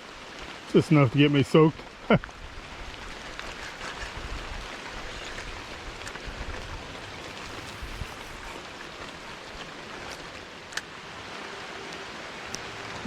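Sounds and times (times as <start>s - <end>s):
rain hissing: 0.0s - 13.0s
running creek water: 0.0s - 13.0s.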